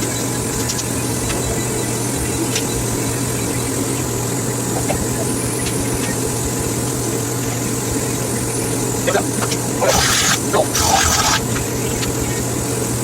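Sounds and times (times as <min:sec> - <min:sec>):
machine hum and drone: 0:00.0 - 0:13.0.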